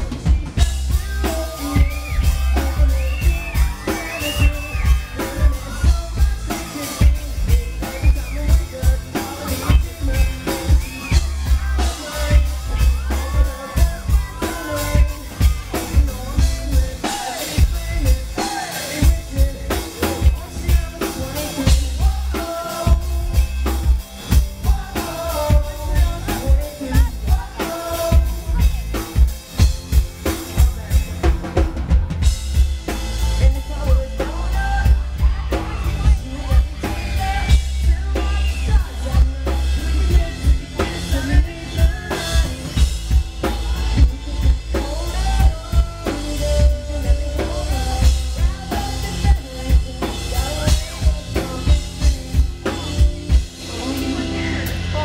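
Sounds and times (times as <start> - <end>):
drum kit beating: 0.0 - 55.0
live pop-rock band playing: 0.0 - 55.0.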